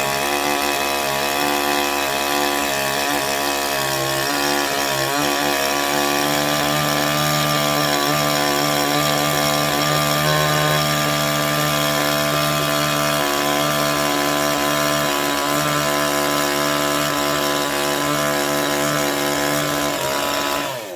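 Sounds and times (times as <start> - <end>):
chainsaw engine running: 0.0 - 20.9.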